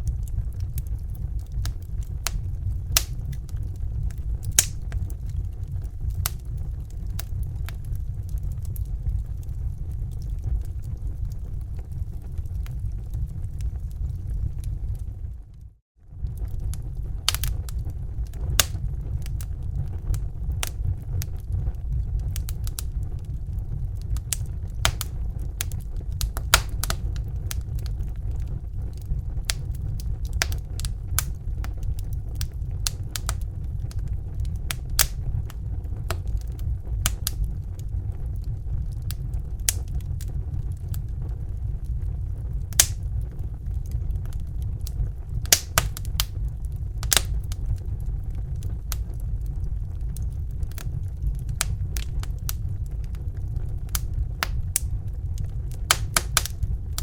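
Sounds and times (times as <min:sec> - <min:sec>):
fire crackling and popping: 0:00.0 - 0:57.0
low rumble: 0:00.0 - 0:57.0.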